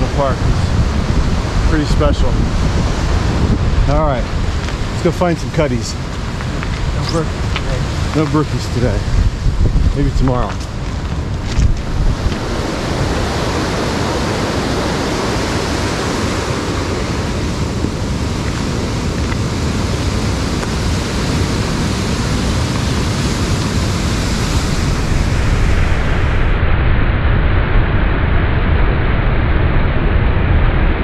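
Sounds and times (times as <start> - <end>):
mountain stream rushing: 0.0 - 26.4.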